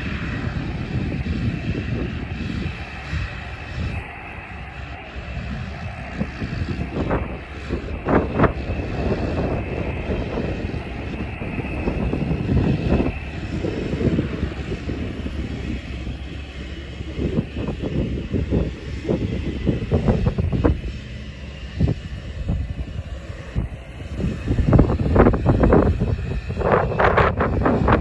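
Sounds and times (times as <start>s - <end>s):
turboprop engine whine: 0.0s - 28.0s
wind buffeting microphone: 0.0s - 28.0s.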